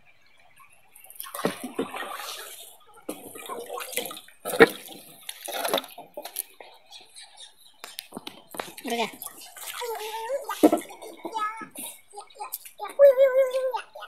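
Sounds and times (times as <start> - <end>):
water splashing around canoe: 0.4 - 14.0.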